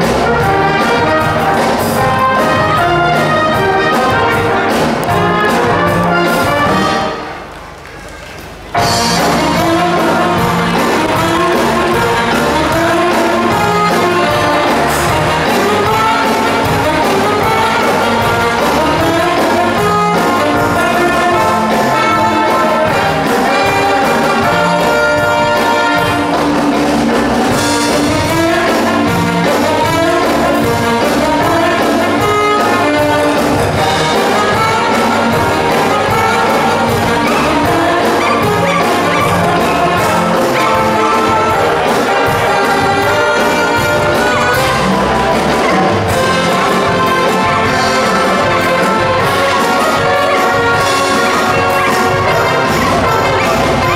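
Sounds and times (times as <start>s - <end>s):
brass band music: 0.0s - 7.8s, 8.4s - 53.9s.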